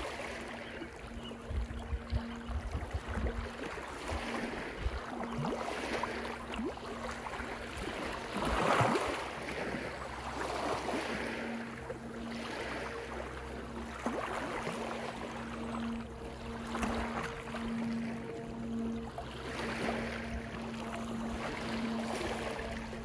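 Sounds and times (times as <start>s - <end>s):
small waves on rocky shore: 0.0s - 23.0s.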